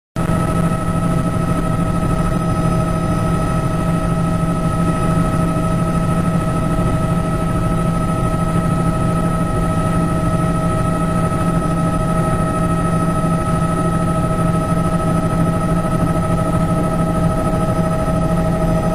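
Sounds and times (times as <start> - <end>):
helicopter engine and rotor drone: 0.2 - 18.9.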